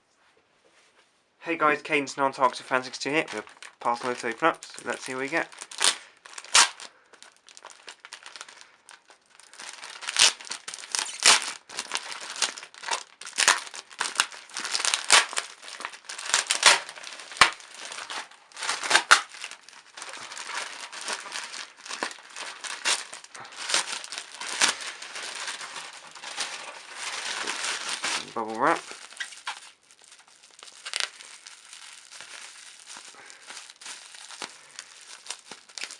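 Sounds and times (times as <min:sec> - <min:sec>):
packaging crinkling and rustling: 0:02.4 - 0:35.9
packaging tearing: 0:02.7 - 0:35.9.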